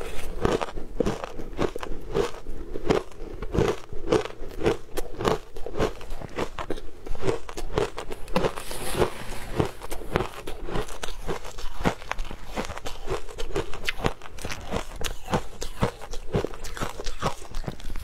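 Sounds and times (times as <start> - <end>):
ice being chewed: 0.0 - 18.0.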